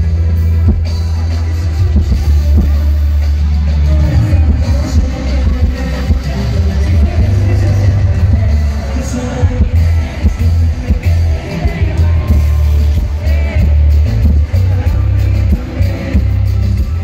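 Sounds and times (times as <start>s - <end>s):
band singing into microphones: 0.0s - 17.0s
heavy pulsing bass: 0.0s - 17.0s
live pop concert music: 0.0s - 17.0s.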